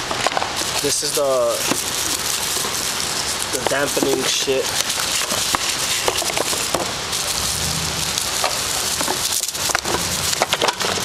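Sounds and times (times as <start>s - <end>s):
bubble wrap crinkling and crackling: 0.0s - 11.0s
rain hissing: 0.0s - 11.0s.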